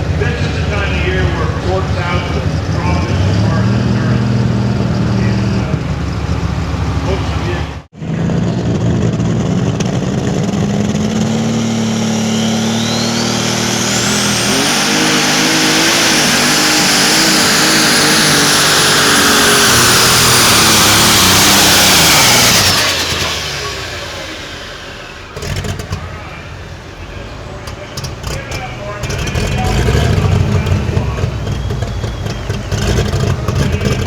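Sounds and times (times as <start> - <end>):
turbo whine: 0.0 - 7.9, 9.7 - 34.0
diesel engine at full power: 0.0 - 34.0.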